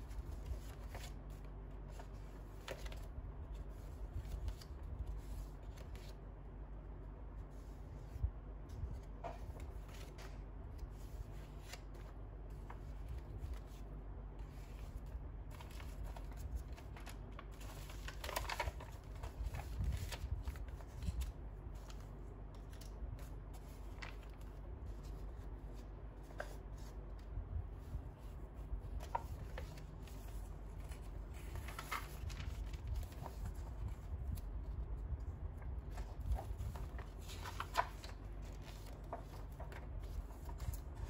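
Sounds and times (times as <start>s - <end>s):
paper pages rustling: 0.0s - 6.2s, 7.4s - 41.0s
soft page flaps and clicks: 0.0s - 6.2s, 7.6s - 13.8s, 14.4s - 41.0s
steady low hum: 0.0s - 41.0s.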